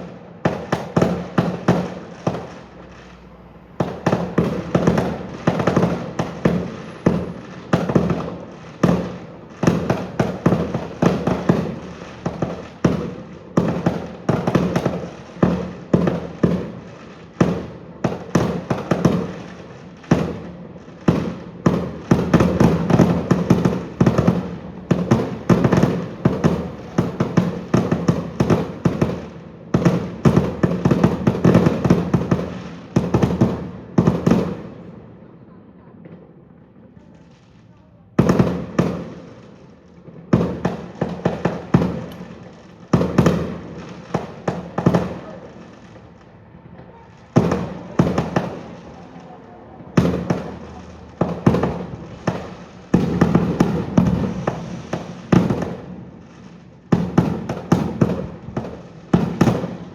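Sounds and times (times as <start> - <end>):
firework crackling: 0.0 - 35.0, 36.5 - 59.9
firework bangs: 0.0 - 35.1, 36.0 - 59.9.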